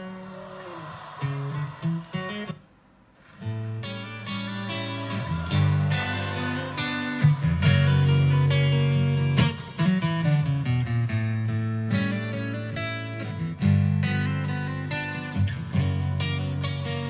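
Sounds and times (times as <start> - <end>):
acoustic guitar strumming chords: 3.2 - 17.0.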